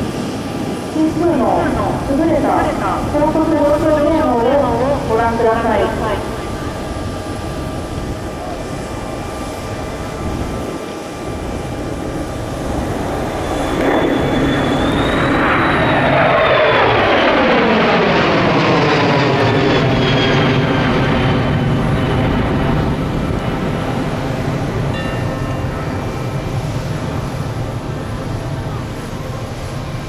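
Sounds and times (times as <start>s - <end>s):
jet aircraft passing by: 0.0s - 30.0s.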